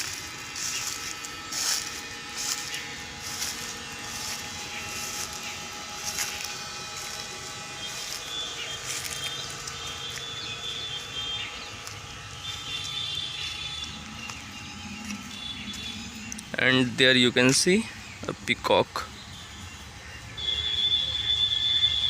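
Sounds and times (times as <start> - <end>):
short chirping calls: 0.0 - 22.0.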